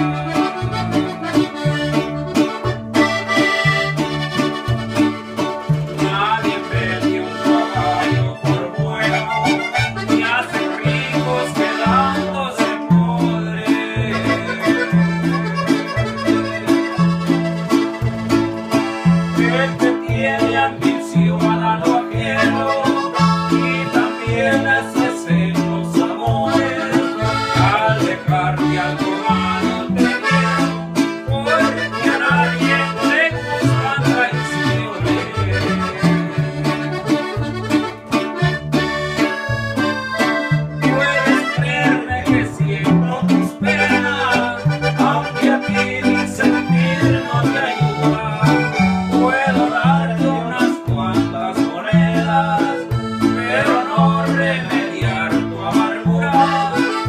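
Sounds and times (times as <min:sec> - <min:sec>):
accordion melody: 0:00.0 - 0:57.0
plucked acoustic bass guitar: 0:00.0 - 0:57.0.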